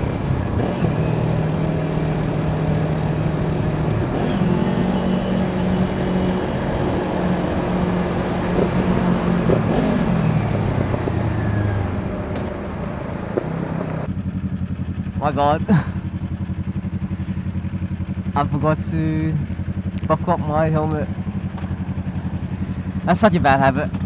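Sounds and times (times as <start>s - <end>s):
motorcycle engine while riding: 0.0s - 24.0s.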